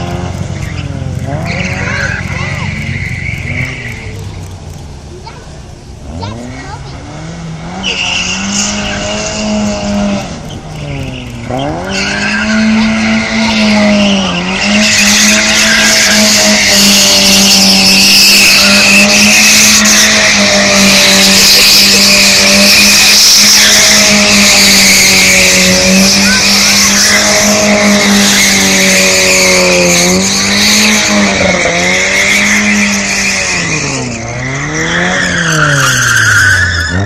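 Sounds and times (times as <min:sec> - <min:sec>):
race car engine at high revs: 0:00.0 - 0:37.0
tyres squealing: 0:00.0 - 0:37.0.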